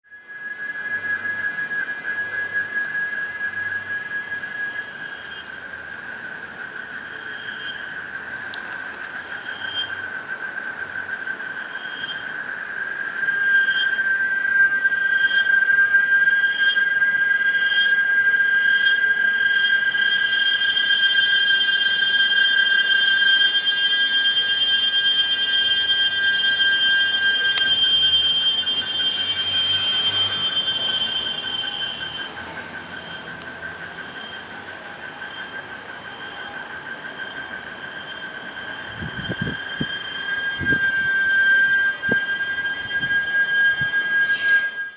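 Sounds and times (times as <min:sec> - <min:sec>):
cicadas droning: 0:00.1 - 0:44.9.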